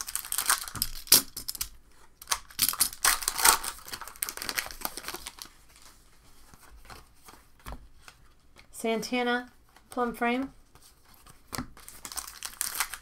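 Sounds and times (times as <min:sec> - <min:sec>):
cards and packaging rustling: 0:00.0 - 0:08.7, 0:09.7 - 0:13.0.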